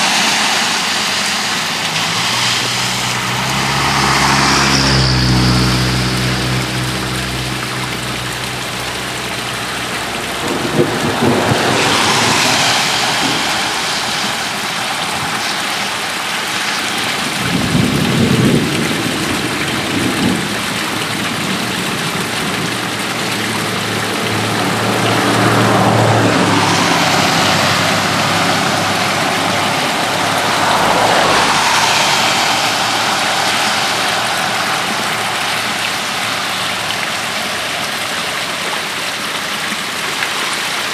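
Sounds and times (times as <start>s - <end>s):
low engine hum: 0.0s - 16.6s, 17.7s - 40.0s
running storm water: 0.0s - 40.9s
steady rain: 0.0s - 40.9s
tyre hiss on wet road: 0.0s - 40.9s.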